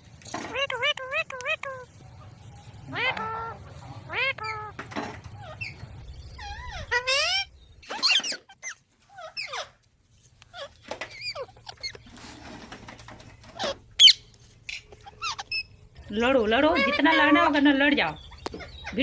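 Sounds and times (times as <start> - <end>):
parrots squawking and screeching: 0.3 - 19.0.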